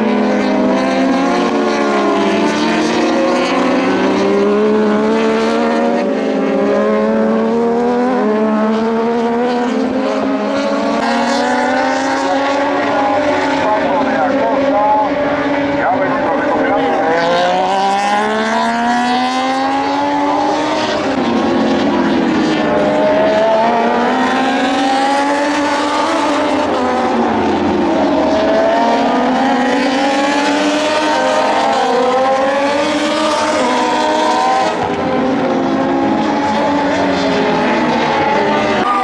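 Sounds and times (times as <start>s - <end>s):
racing motorcycles revving: 0.0s - 39.0s.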